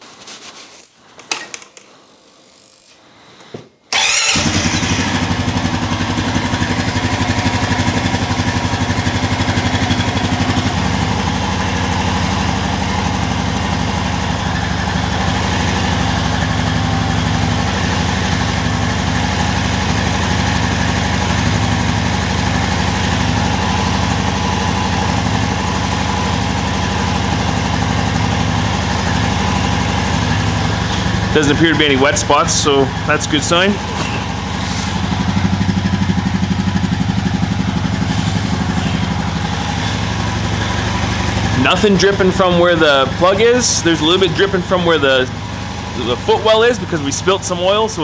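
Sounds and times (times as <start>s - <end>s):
atv engine idling: 3.9s - 48.0s.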